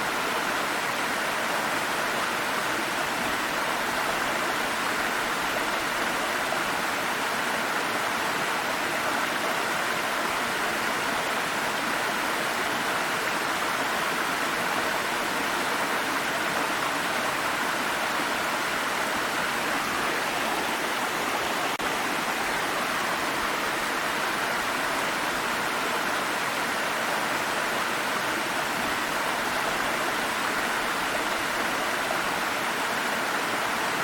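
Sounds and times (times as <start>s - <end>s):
water stream flowing: 0.0s - 34.0s.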